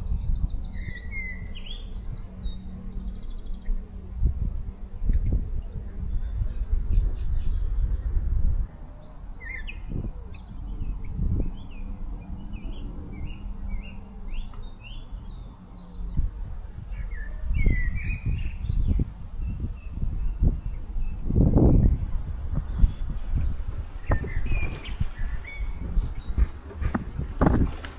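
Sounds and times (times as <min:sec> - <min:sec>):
low rumble: 0:00.0 - 0:27.9
songbirds chirping: 0:00.0 - 0:27.9.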